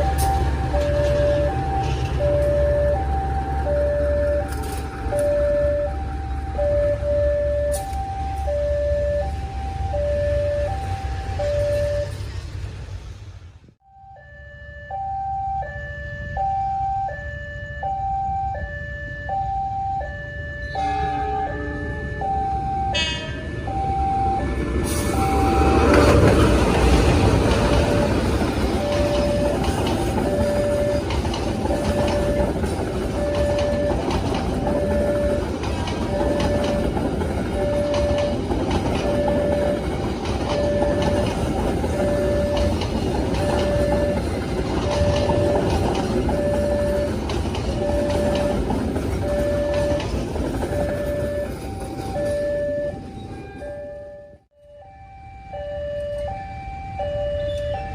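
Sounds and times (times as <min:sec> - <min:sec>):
two-tone electronic warning signal: 0:00.0 - 0:12.3, 0:13.8 - 0:57.9
train rumbling on rails: 0:00.0 - 0:57.9.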